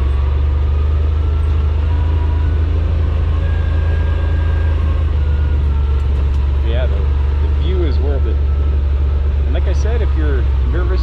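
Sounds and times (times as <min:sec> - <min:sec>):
utility vehicle engine droning: 0:00.0 - 0:11.0.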